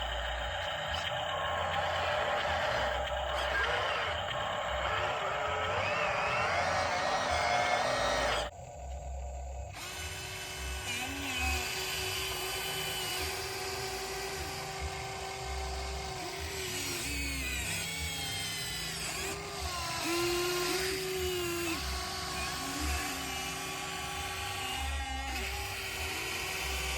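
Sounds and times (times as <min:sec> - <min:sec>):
small electric motors whining: 0:00.0 - 0:08.6, 0:09.6 - 0:26.9.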